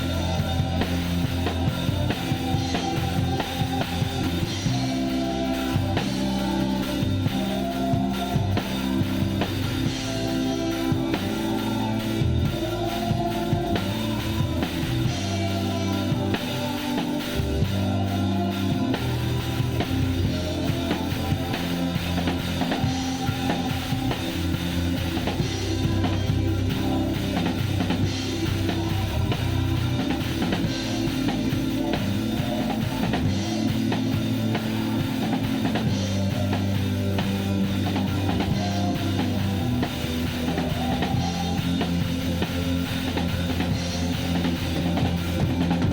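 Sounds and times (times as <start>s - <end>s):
bass and sustained chords: 0.0s - 45.9s
drum kit rock groove: 0.0s - 45.9s.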